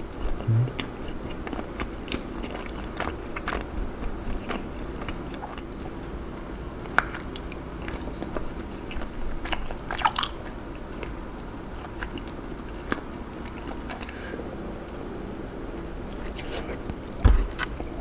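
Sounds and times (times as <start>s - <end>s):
biting and chewing food: 0.0s - 18.0s.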